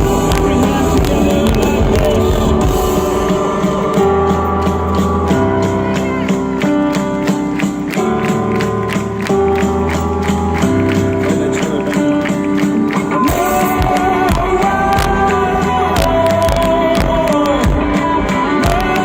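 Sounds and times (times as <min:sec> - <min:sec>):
live band playing instrumental: 0:00.0 - 0:19.0.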